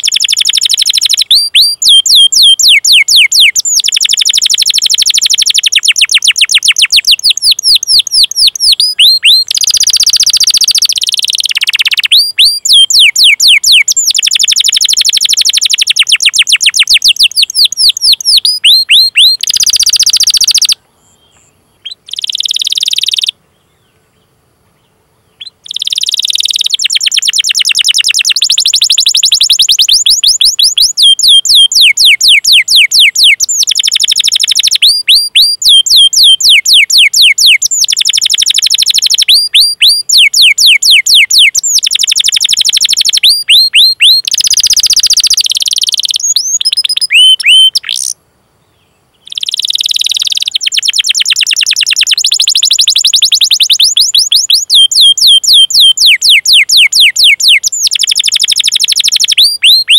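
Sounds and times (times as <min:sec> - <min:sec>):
canary singing: 0:00.0 - 0:23.4, 0:25.3 - 0:48.2, 0:49.1 - 0:59.9.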